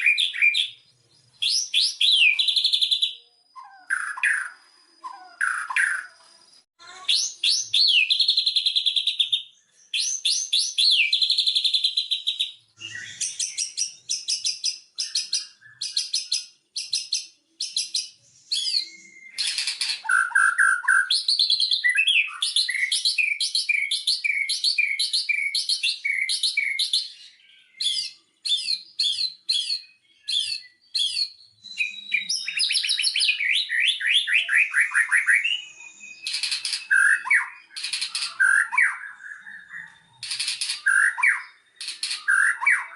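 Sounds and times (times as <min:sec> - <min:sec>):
bird singing varied song: 0:00.0 - 0:42.9.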